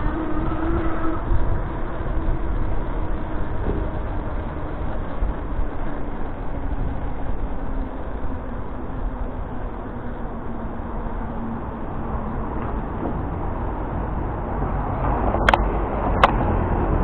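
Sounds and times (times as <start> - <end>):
bicycle tyre and street noise: 0.0 - 17.0
wind buffeting microphone: 0.0 - 17.0.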